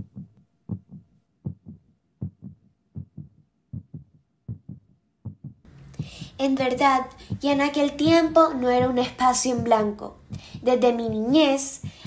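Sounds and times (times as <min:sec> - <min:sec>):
heartbeat thumps: 0:00.0 - 0:12.0.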